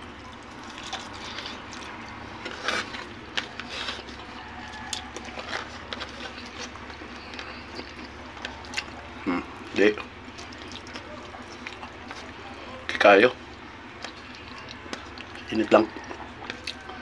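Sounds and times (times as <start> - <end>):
chewing and lip smacks: 0.0 - 17.0.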